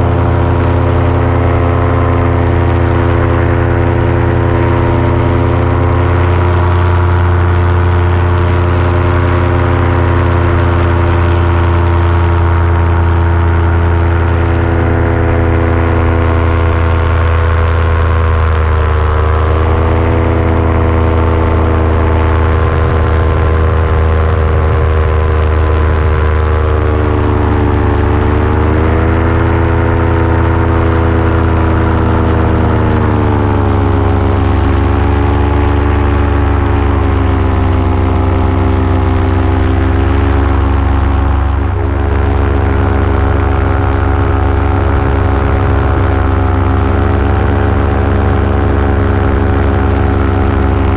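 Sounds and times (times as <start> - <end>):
paramotor engine and propeller: 0.0 - 50.9.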